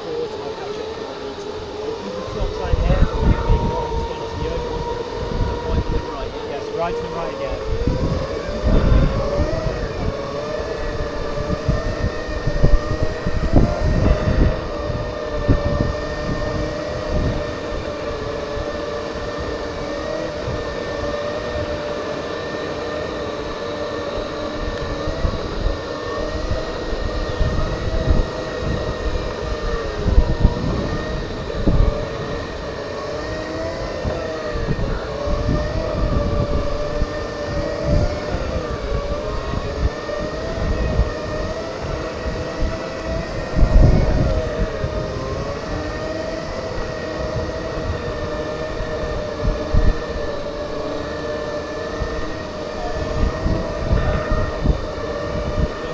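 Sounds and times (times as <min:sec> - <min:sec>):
electric motors whining: 0:00.0 - 0:55.9
wind buffeting microphone: 0:00.0 - 0:55.9.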